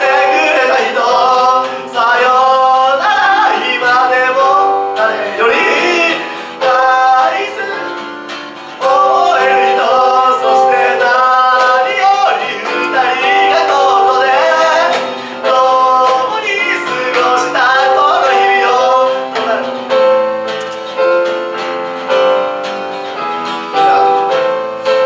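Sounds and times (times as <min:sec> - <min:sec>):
acoustic guitar: 0:00.0 - 0:25.0
harmonica melody: 0:00.0 - 0:25.0
keyboard: 0:00.0 - 0:25.0.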